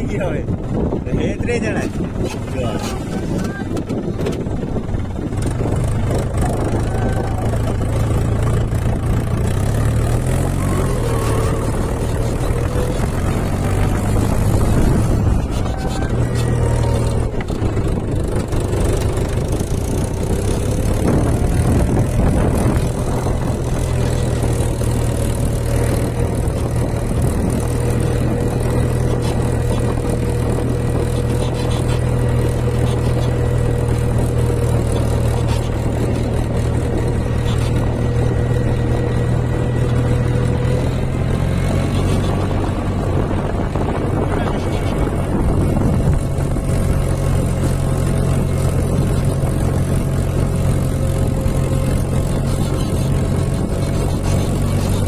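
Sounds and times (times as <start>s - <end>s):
engine droning: 0.0s - 55.0s
thin held whine: 5.0s - 55.0s.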